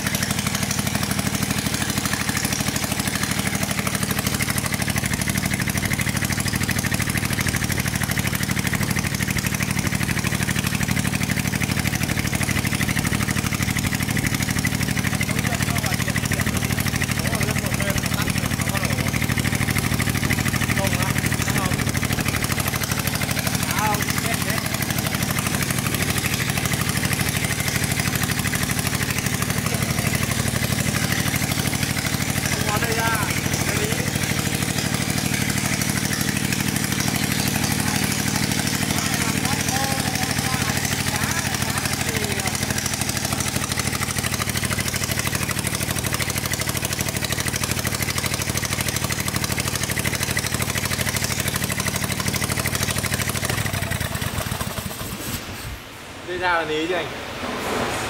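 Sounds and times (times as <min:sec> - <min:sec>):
petrol engine running steadily: 0:00.0 - 0:56.2.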